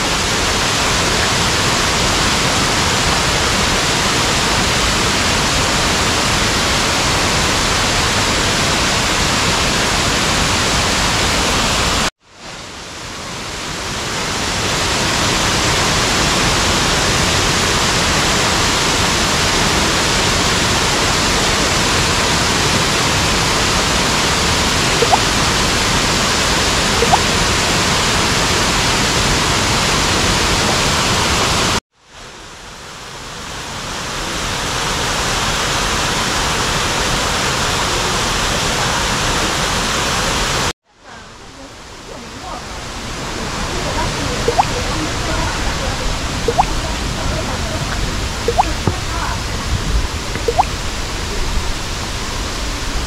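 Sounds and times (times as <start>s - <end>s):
waterfall rushing: 0.0s - 32.3s, 33.1s - 40.7s, 41.8s - 53.0s.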